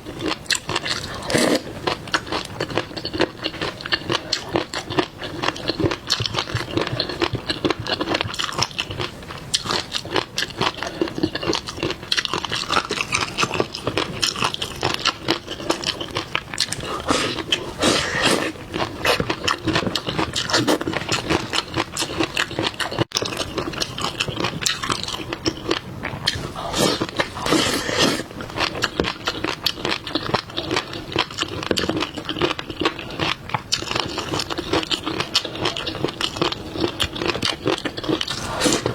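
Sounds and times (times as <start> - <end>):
seafood being chewed and crunched: 0.0 - 38.9.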